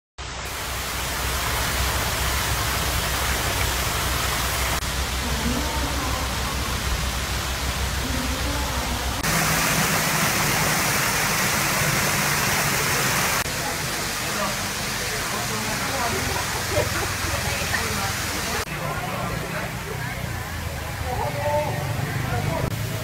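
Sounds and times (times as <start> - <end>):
water spray hissing: 0.2 - 18.7.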